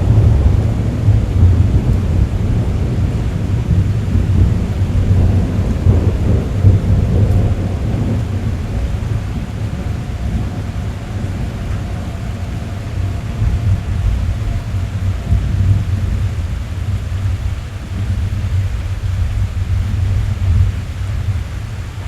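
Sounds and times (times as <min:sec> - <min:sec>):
deep steady rumble: 0:00.0 - 0:22.0
rain drumming on a car roof: 0:00.0 - 0:22.0.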